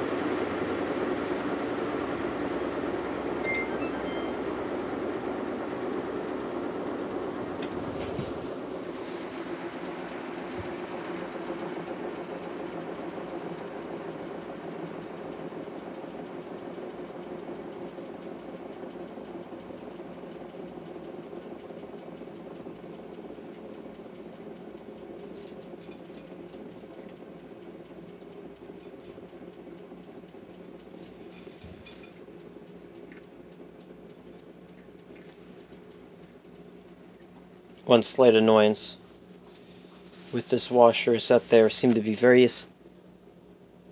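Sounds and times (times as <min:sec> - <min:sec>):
washing machine spinning: 0:00.0 - 0:42.0.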